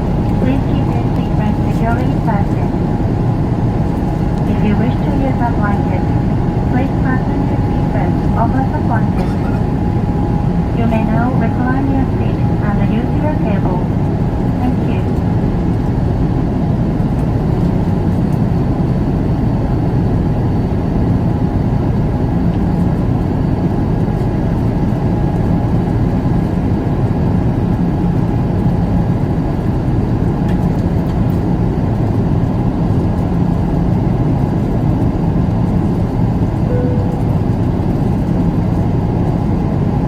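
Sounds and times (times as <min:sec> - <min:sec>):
airliner cabin engine rush: 0:00.0 - 0:40.0.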